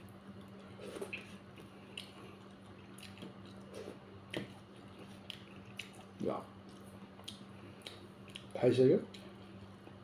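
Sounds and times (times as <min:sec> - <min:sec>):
faint steady hum: 0:00.0 - 0:10.0
wet eating smacks and squelches: 0:00.4 - 0:10.0.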